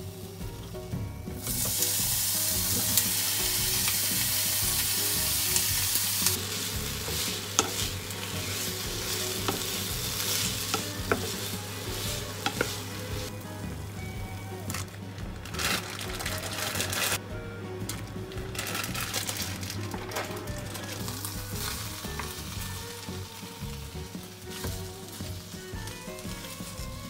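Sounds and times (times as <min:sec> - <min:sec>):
onion and bacon sizzling in pan: 0:00.0 - 0:27.0.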